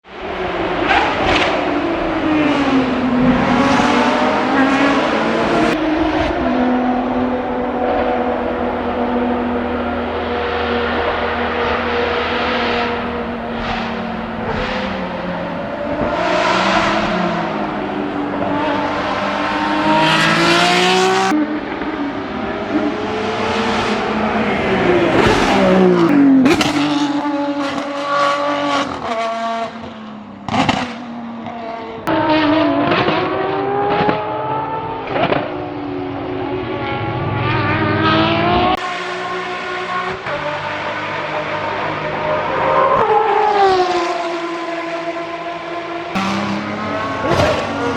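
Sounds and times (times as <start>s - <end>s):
race car engine revving: 0.2s - 47.9s.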